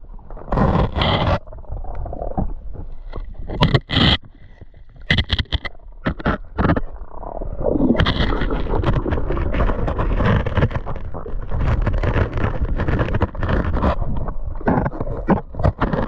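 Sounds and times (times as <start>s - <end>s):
churning water underwater: 0.0s - 16.0s.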